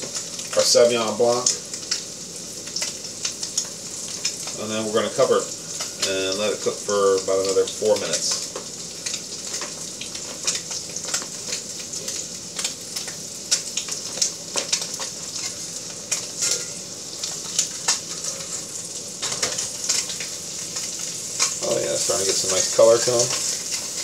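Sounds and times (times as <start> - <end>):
crackles and pops: 0.0 - 24.0
fish sizzling in butter: 0.0 - 24.0.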